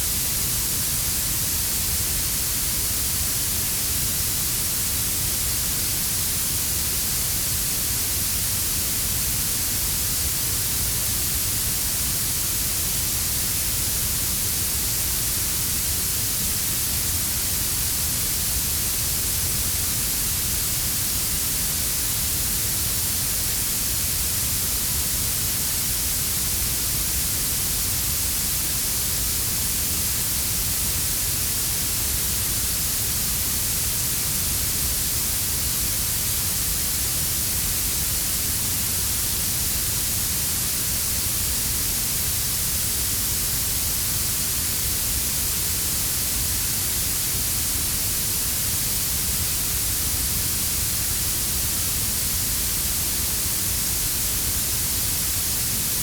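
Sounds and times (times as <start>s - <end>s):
bright blue noise hiss: 0.0s - 56.0s.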